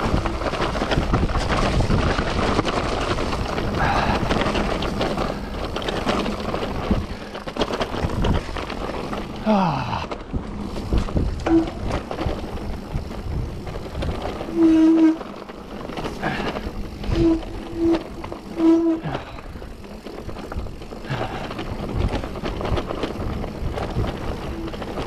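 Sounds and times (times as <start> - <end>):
bike knocks and rattles: 0.0 - 25.0
bike tyre noise on trail: 0.0 - 25.0.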